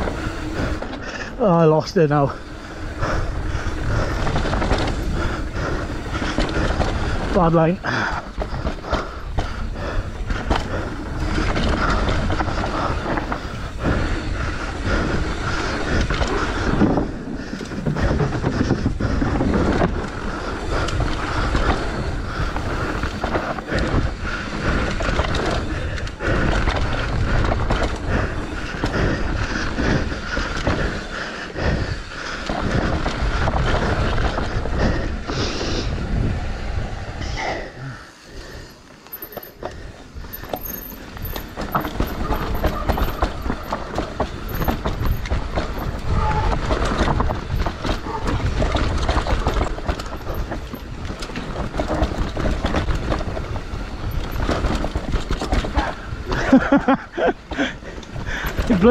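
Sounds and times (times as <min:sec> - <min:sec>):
bike chain and frame clattering: 0:00.0 - 0:35.2, 0:38.2 - 0:58.9
bike tyres rolling over dirt: 0:00.0 - 0:58.9.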